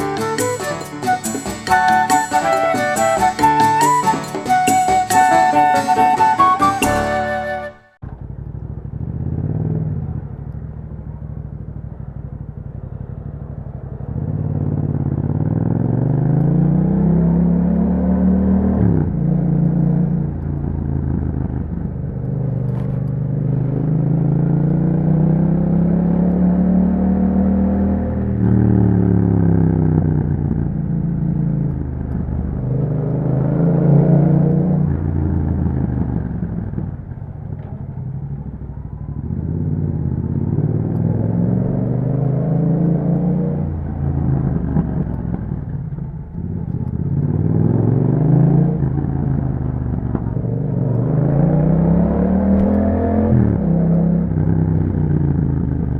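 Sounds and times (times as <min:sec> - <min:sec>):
motorcycle engine revving: 0:06.2 - 0:55.9.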